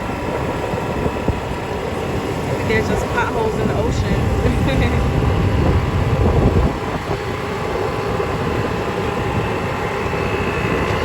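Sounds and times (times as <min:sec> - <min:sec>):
slow open vehicle running: 0:00.0 - 0:11.0
wind rumbling on microphone: 0:00.0 - 0:11.0.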